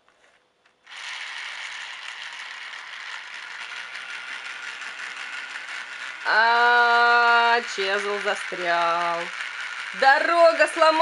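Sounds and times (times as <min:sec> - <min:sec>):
toy train motor rattling: 0:00.6 - 0:11.0.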